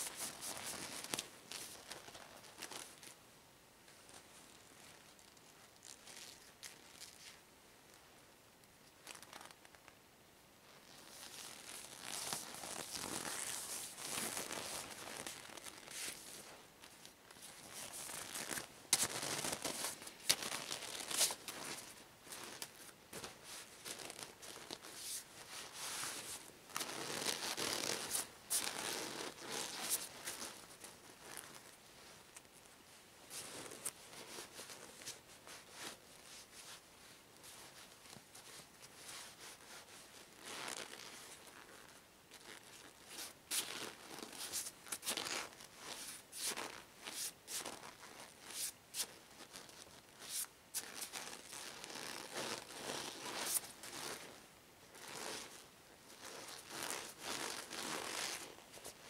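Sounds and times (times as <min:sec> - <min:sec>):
rubber gloves crinkling: 0:00.0 - 0:03.2, 0:03.9 - 0:08.0, 0:08.8 - 0:10.0, 0:10.7 - 0:59.0.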